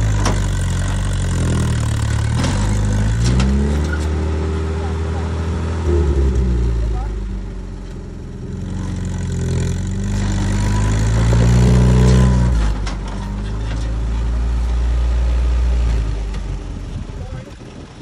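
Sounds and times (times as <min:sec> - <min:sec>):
engine revving under load: 0:00.0 - 0:16.9.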